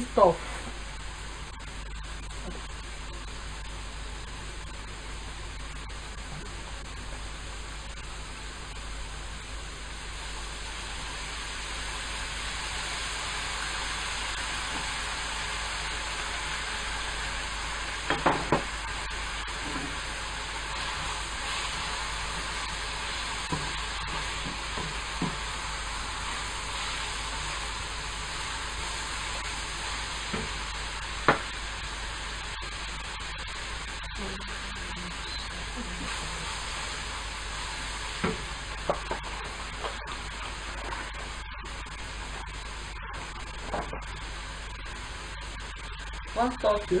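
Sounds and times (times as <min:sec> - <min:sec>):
vegetables sizzling in a frying pan: 0:00.0 - 0:47.0.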